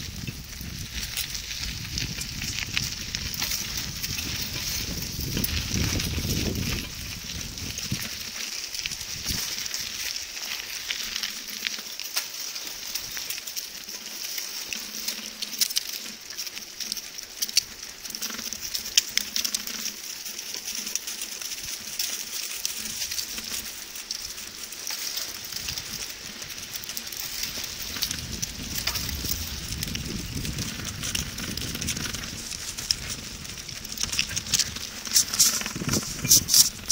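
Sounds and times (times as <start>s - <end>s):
bicycle clicks and rattles: 0.0s - 36.9s
bicycle tyres hissing on pavement: 0.0s - 36.9s.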